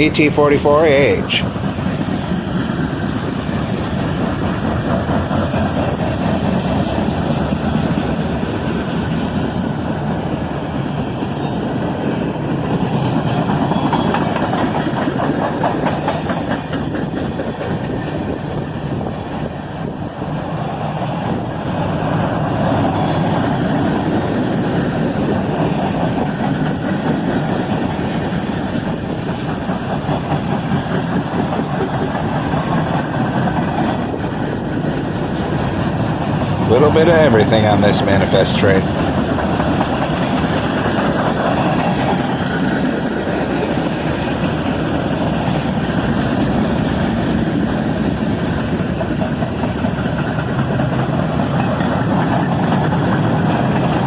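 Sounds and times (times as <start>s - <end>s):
train cars rumbling past: 0.0s - 54.0s
wheels clicking on rails: 0.0s - 54.0s.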